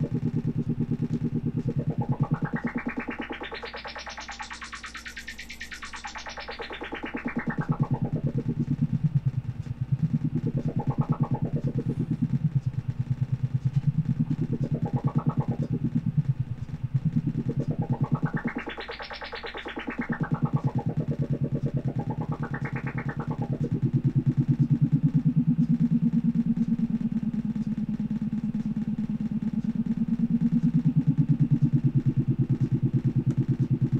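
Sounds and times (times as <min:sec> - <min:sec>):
synthesizer pulsing low tone: 0:00.0 - 0:33.9.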